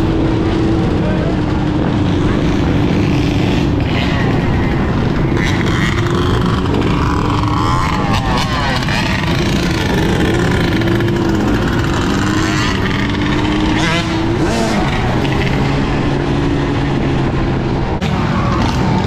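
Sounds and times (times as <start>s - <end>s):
dirt bike engines revving: 0.0s - 19.0s
wind rush on microphone: 0.0s - 19.0s.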